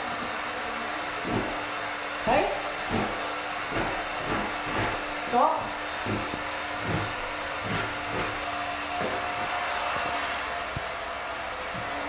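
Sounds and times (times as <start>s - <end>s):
electric power tool whirring: 1.2s - 12.0s.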